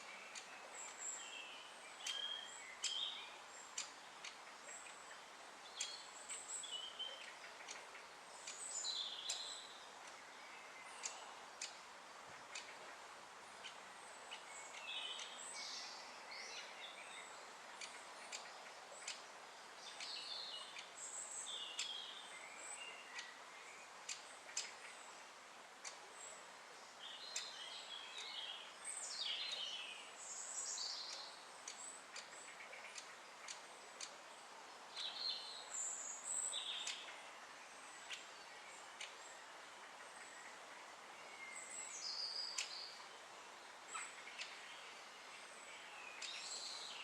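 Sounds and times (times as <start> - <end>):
birds chirping: 0.0 - 47.0
steady background hiss: 0.0 - 47.0.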